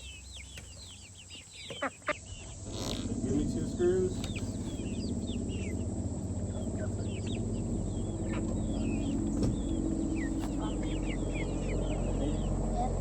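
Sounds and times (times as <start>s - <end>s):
birds chirping: 0.0s - 13.0s
generator engine running: 2.1s - 13.0s.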